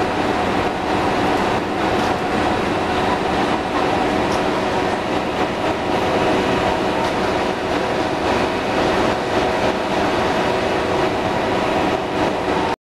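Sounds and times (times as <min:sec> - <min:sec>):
drilling machine running: 0:00.0 - 0:12.7.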